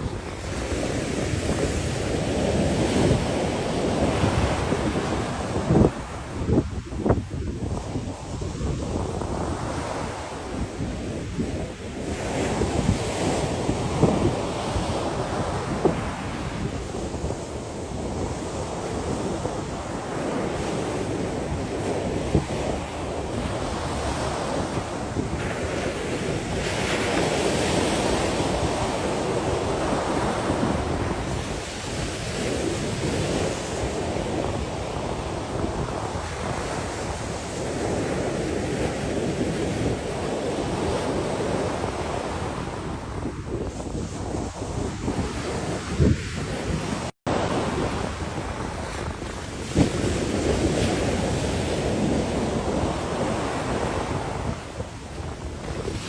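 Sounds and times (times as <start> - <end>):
sea waves washing: 0.0 - 56.0
wind buffeting microphone: 0.0 - 56.0.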